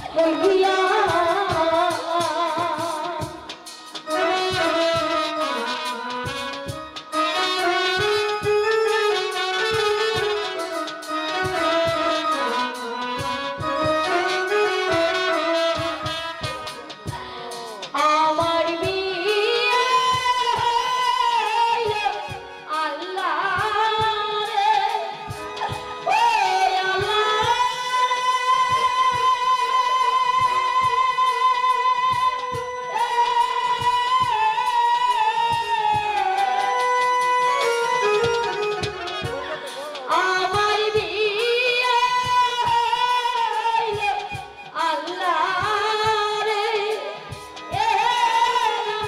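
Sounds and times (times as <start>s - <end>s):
instrumental accompaniment: 0.0s - 49.0s
woman singing: 0.0s - 49.0s.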